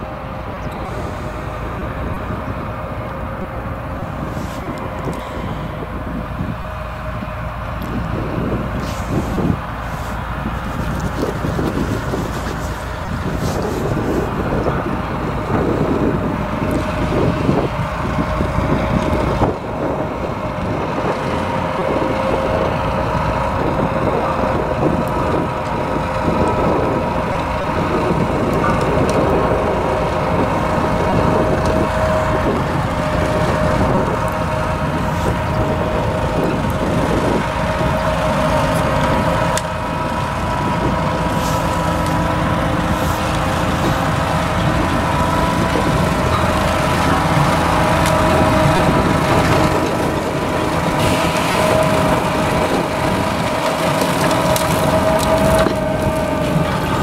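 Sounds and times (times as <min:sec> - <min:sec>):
harvester engine drone: 0:00.0 - 0:57.0
machinery whine: 0:00.0 - 0:57.0.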